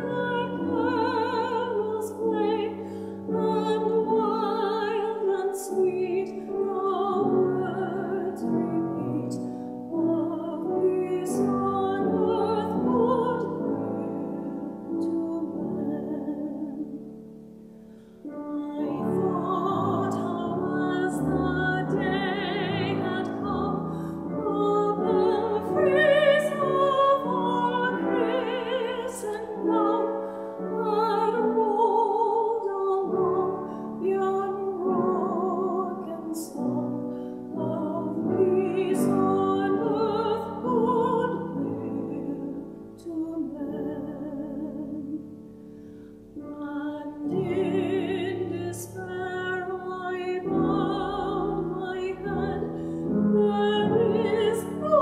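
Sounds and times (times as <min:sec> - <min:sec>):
piano accompaniment: 0:00.0 - 0:55.0
woman singing classical: 0:00.0 - 0:55.0.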